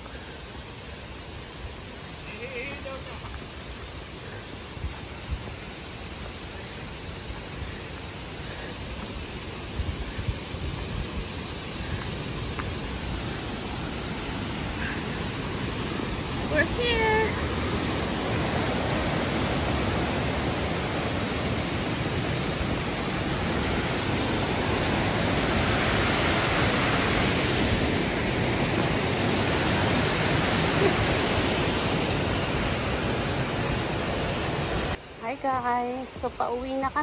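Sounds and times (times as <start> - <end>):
waterfall roaring over rock: 0.0 - 35.3.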